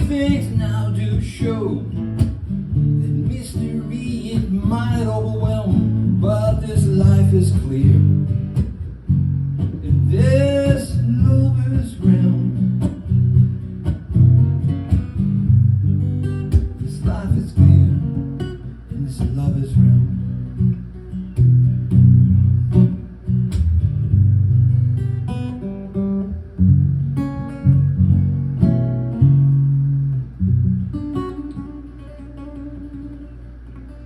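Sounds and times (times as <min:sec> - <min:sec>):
strummed acoustic guitar: 0:00.0 - 0:34.0.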